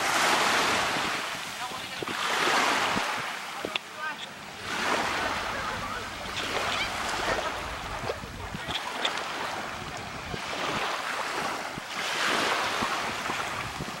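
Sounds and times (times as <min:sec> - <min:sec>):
wind buffeting microphone: 0:00.0 - 0:03.8, 0:04.6 - 0:14.0
sea surf washing: 0:00.0 - 0:14.0.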